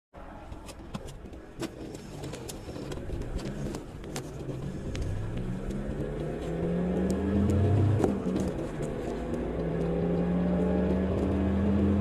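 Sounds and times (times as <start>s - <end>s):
car engine and tyres rumbling: 0.2s - 12.0s
sharp clicks and crackles: 0.5s - 11.4s.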